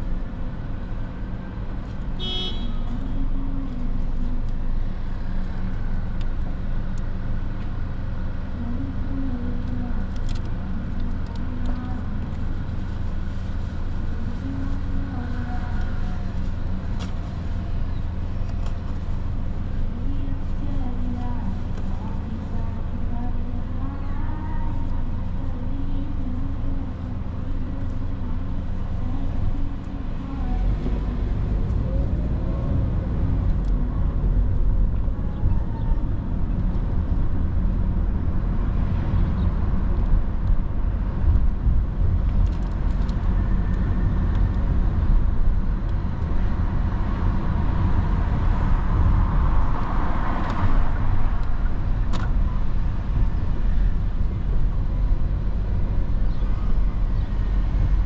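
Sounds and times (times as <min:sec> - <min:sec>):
car engine rumble: 0:00.0 - 0:58.0
traffic: 0:00.0 - 0:58.0.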